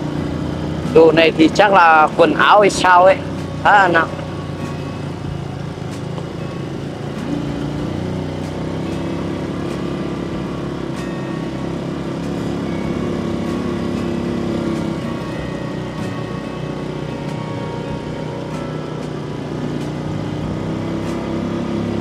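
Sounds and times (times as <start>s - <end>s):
small motorbike engine running: 0.0s - 22.0s.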